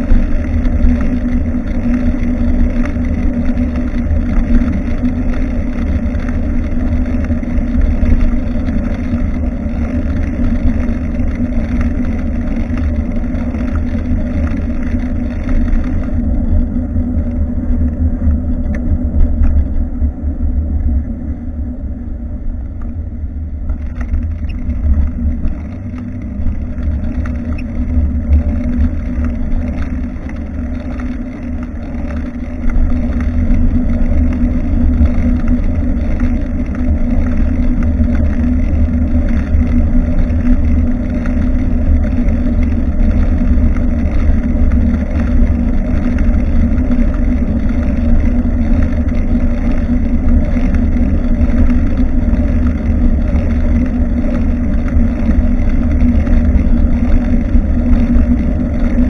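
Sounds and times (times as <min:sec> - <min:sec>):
bike rattles and clicks: 0:00.0 - 0:21.4, 0:22.6 - 0:59.0
low hum: 0:00.0 - 0:59.0
road noise: 0:00.0 - 0:59.0
wind rumble on microphone: 0:00.0 - 0:59.0.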